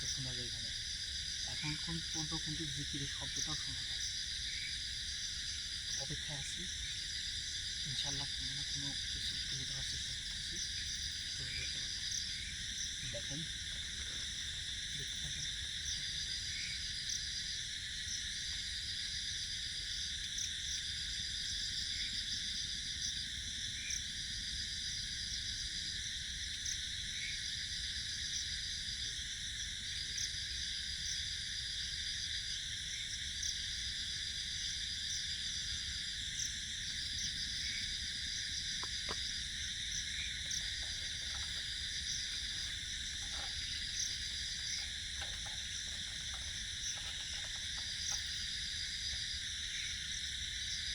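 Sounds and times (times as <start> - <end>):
crickets chorus: 0.0 - 50.9.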